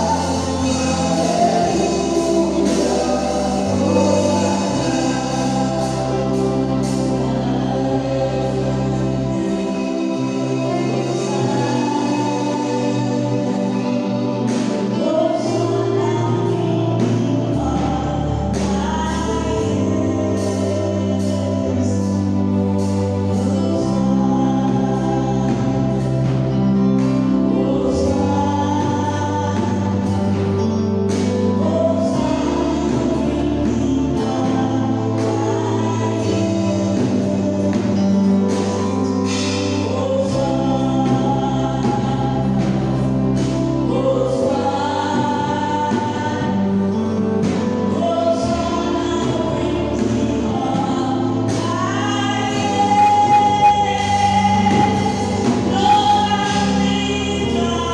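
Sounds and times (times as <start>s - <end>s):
gospel choir singing: 0.0s - 57.9s
instrumental accompaniment: 0.0s - 57.9s
long held bass notes: 0.0s - 57.9s.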